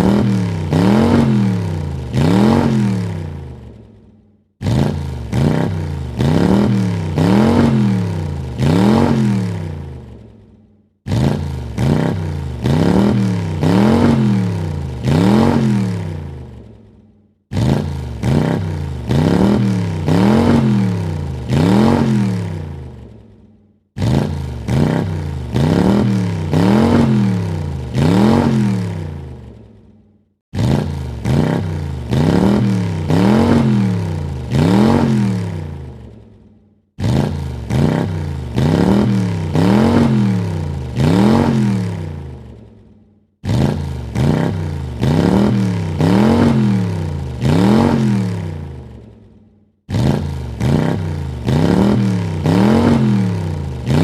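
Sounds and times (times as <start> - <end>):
car engine revving: 0.0 - 3.8, 4.6 - 10.4, 11.0 - 16.7, 17.5 - 23.3, 24.0 - 29.7, 30.5 - 36.2, 37.0 - 42.6, 43.4 - 49.1, 49.9 - 54.0.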